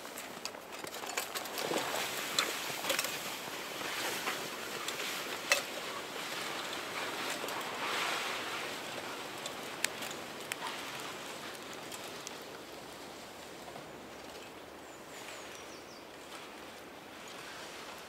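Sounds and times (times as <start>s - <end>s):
sled sliding over snow: 0.0s - 15.4s.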